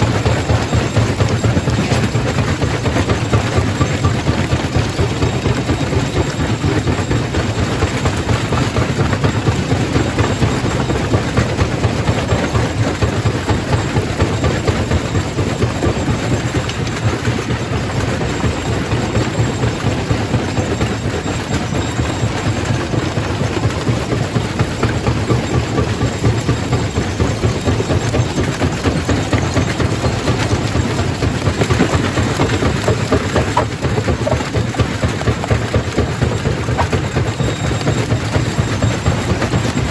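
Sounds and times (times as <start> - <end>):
rock crusher rumbling and rattling: 0.0 - 39.9.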